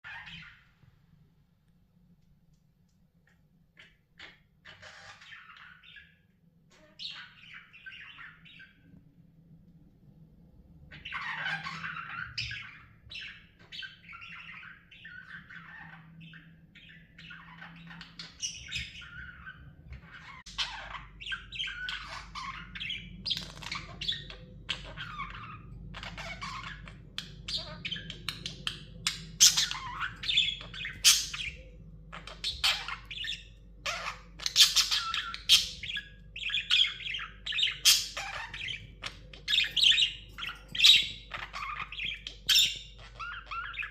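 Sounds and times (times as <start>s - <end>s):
budgerigars chattering: 3.8s - 6.2s, 10.9s - 43.9s.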